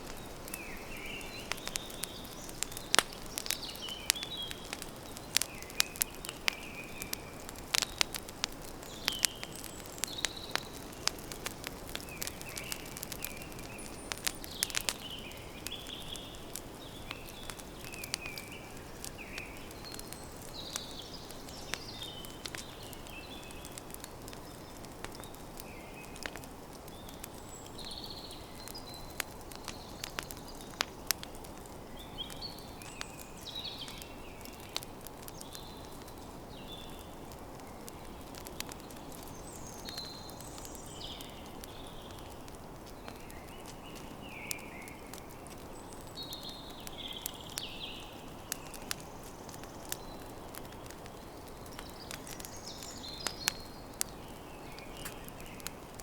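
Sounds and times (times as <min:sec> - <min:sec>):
birds chirping: 0:00.0 - 0:55.8
campfire crackling and popping: 0:00.0 - 0:56.0.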